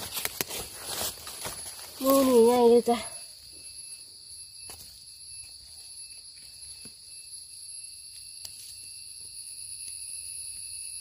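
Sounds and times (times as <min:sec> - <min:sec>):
forest insects buzzing: 0:00.0 - 0:11.0.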